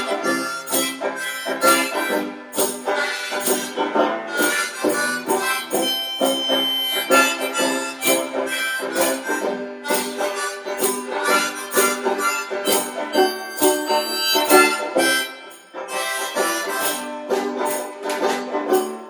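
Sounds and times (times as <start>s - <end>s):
blues band playing: 0.0s - 19.0s
harmonica melody: 0.0s - 19.0s.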